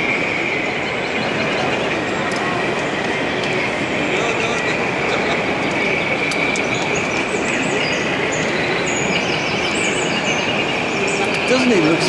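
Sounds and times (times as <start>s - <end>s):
busy exhibition hall din: 0.0s - 12.0s.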